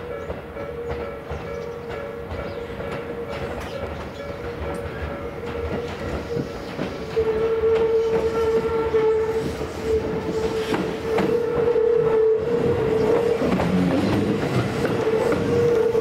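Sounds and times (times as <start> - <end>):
electric train whine: 0.0 - 16.0
wheels clicking over rail joints: 0.0 - 16.0.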